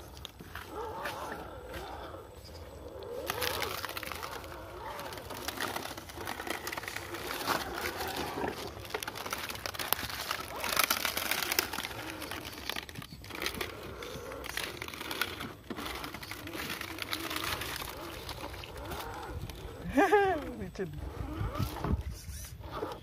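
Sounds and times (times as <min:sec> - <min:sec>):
rc car tyres crunching leaves: 0:00.0 - 0:23.0.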